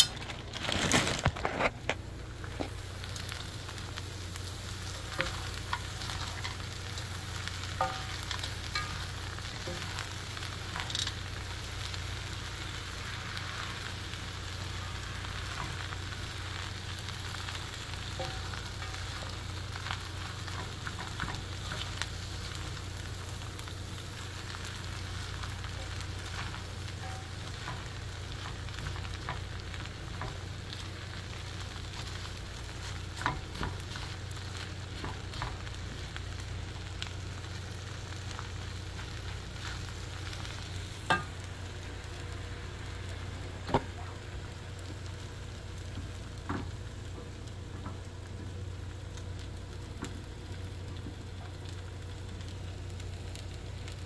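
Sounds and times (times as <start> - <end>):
fried rice sizzling in a pan: 0.0 - 54.0.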